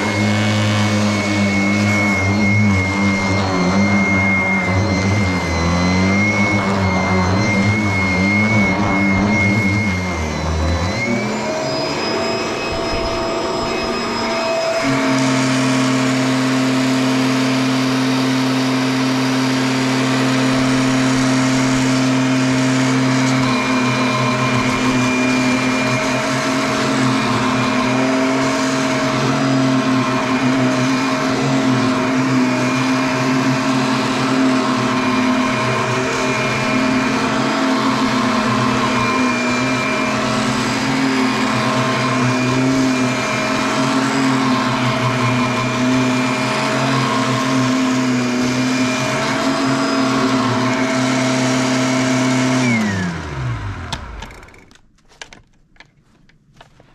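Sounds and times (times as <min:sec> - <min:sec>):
handheld vacuum cleaner running: 0:00.0 - 0:56.9.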